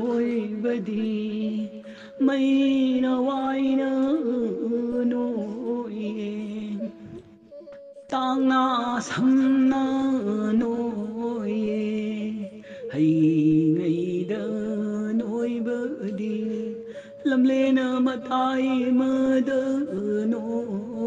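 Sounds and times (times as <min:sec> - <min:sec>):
chant-like singing: 0:00.0 - 0:21.0.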